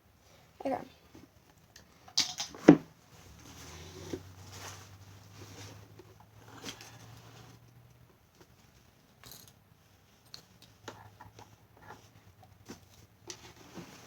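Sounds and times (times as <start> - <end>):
light rustling and shuffling: 2.6 - 14.0.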